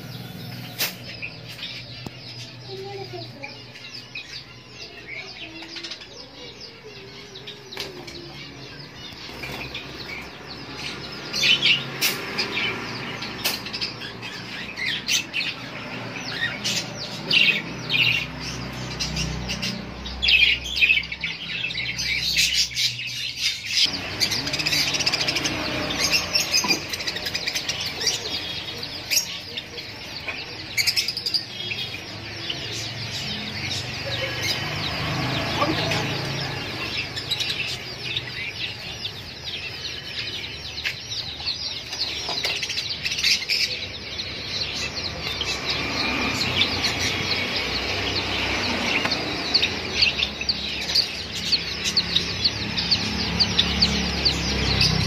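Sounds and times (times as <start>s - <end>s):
birds twittering: 0.0s - 55.0s.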